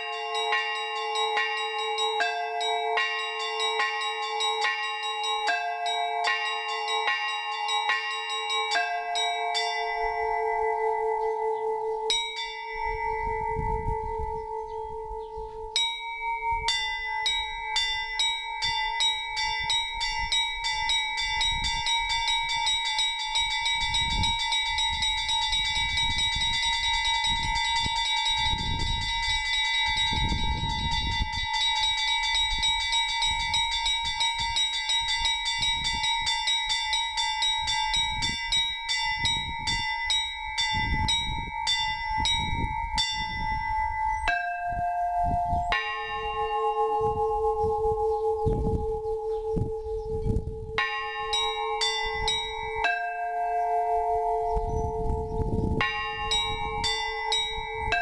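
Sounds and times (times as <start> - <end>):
large bells ringing: 0.0 - 58.0
small bells struck rapidly: 0.0 - 58.0.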